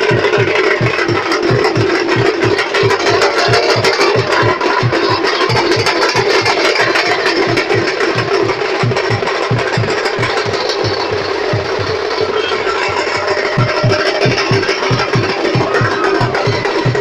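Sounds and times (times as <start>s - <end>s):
bass drum beats: 0.0s - 17.0s
street band music: 0.0s - 17.0s.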